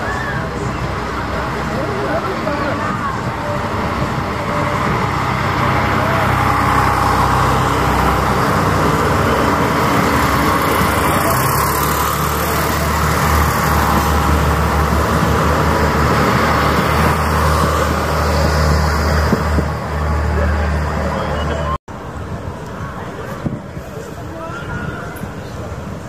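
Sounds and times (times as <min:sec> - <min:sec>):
diesel engine drone: 0:00.0 - 0:24.3
train wheels rumbling on rails: 0:00.1 - 0:21.0.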